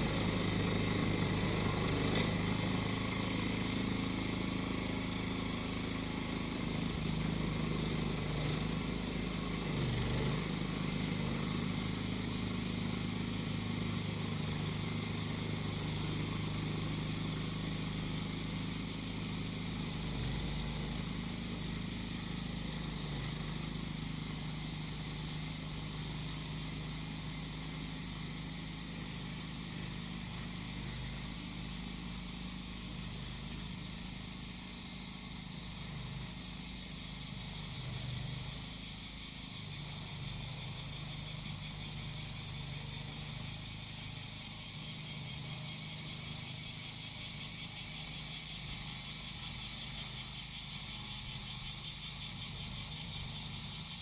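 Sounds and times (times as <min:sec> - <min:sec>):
cicadas singing: 0:00.0 - 0:54.0
grass cutter engine running: 0:00.0 - 0:54.0.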